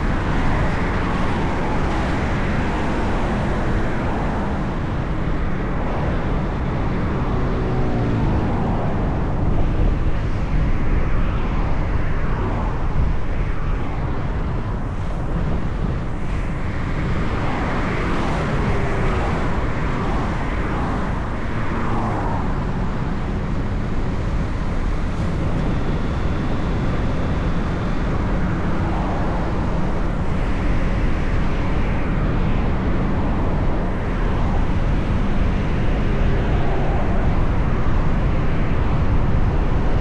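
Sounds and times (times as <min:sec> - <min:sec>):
car road and engine rumble: 0:00.0 - 0:40.0.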